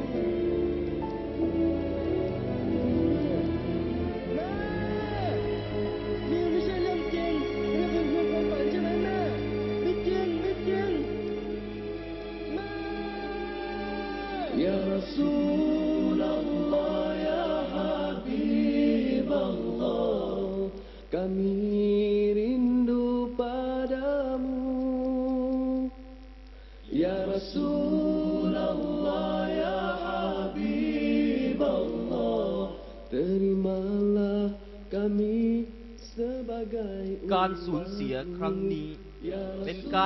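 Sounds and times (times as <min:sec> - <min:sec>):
unaccompanied chant-like singing: 0:04.2 - 0:26.0, 0:26.8 - 0:40.0.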